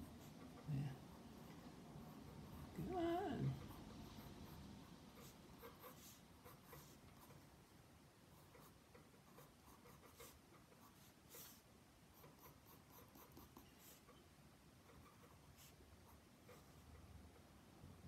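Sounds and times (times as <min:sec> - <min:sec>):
pencil scratching on paper: 0:00.0 - 0:07.5, 0:08.3 - 0:14.2, 0:14.8 - 0:17.5.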